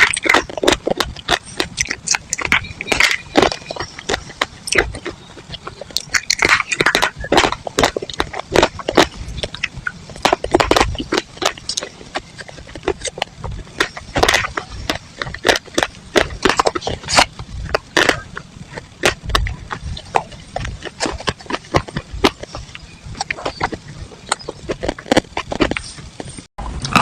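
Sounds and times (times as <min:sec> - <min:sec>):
chalk and clay crunching: 0:00.0 - 0:27.0.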